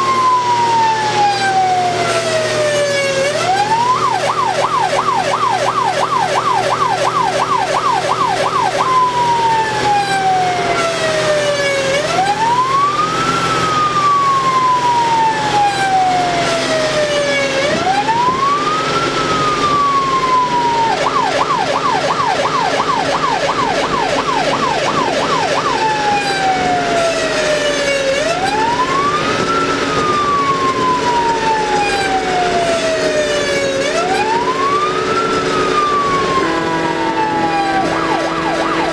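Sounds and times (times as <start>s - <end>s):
fire engine siren yelp and wail: 0.0s - 38.9s
truck engine drone: 0.0s - 38.9s.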